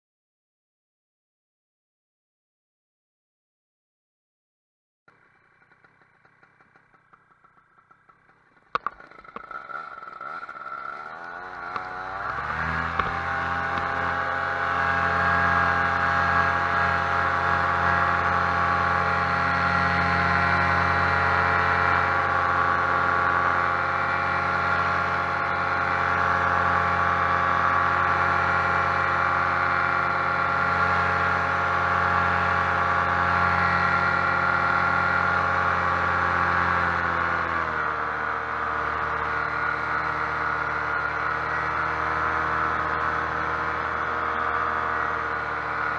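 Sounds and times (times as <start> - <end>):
paramotor engine drone: 5.1 - 45.9.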